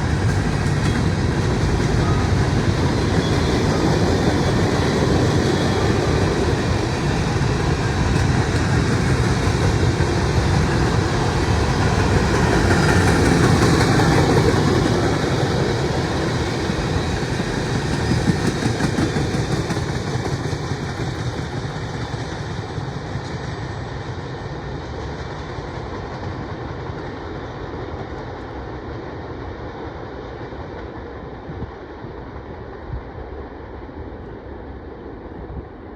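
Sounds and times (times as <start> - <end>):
freight train rolling past: 0.0 - 35.9.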